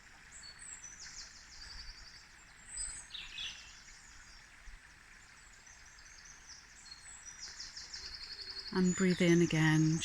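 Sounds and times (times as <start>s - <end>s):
songbirds singing: 0.0s - 10.0s
stream babbling over rocks: 0.0s - 10.0s.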